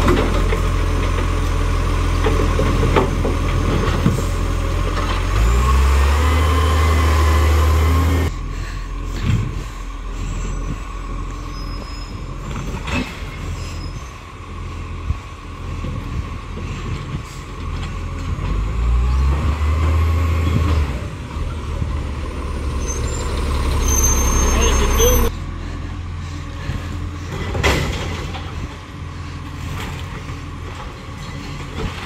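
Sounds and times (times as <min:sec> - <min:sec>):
diesel truck engine rumbling: 0:00.0 - 0:32.0.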